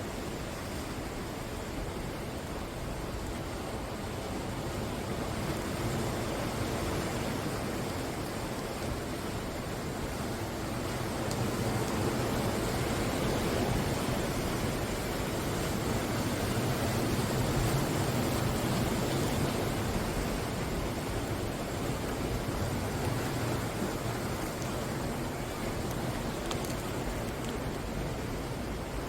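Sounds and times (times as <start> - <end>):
ocean surf washing ashore: 0.0 - 29.0.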